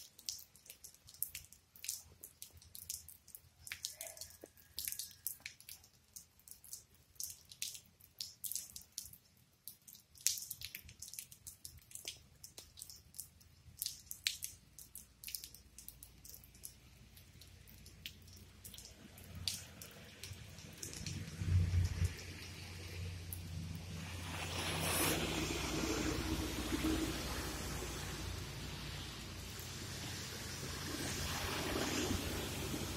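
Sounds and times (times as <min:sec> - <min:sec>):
rainwater dripping: 0:00.0 - 0:32.9.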